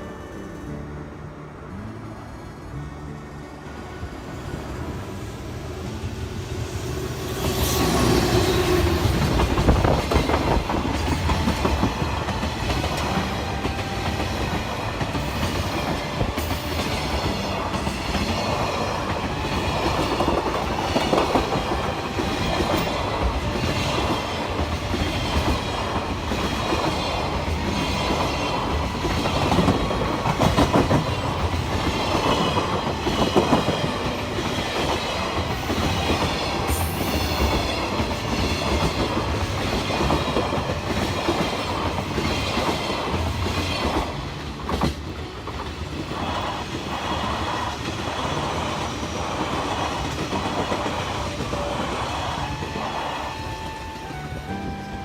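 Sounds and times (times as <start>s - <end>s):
train wheels clacking over rail joints: 7.4s - 52.5s.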